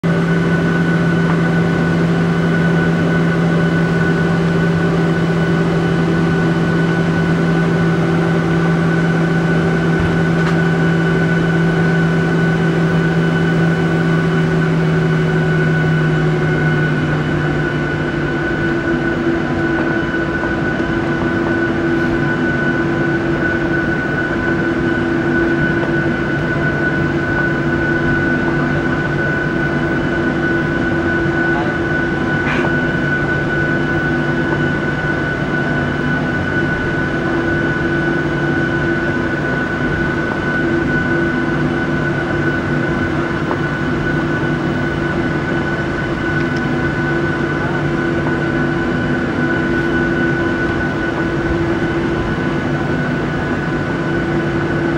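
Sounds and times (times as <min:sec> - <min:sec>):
jet engines droning: 0:00.0 - 0:54.9.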